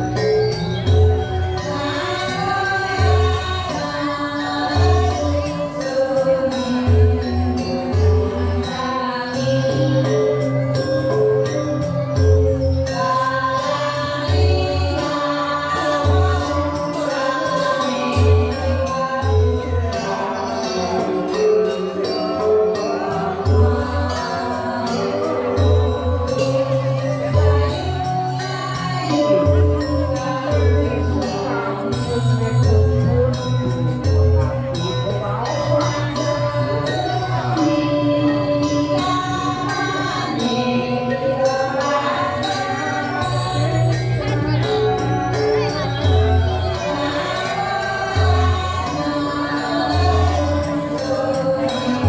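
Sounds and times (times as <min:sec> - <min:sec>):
group of voices singing: 0:00.0 - 0:52.0.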